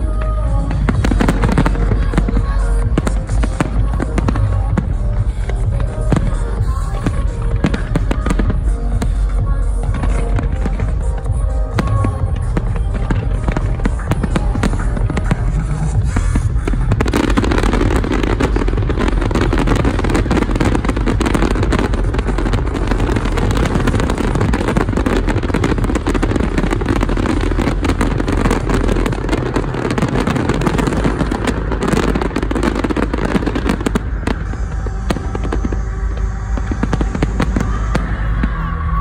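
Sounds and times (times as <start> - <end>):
fireworks bursting and crackling: 0.0 - 39.0.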